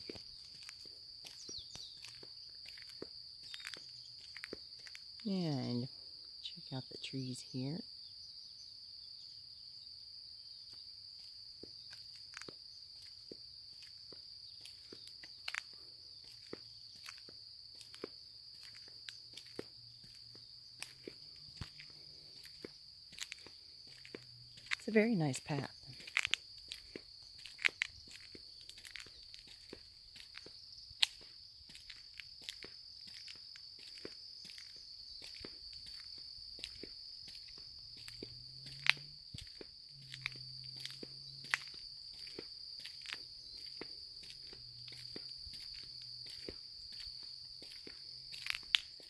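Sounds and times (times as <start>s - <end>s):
footsteps on path: 0.0s - 5.4s, 10.6s - 49.0s
high-pitched insect chorus: 0.0s - 49.0s.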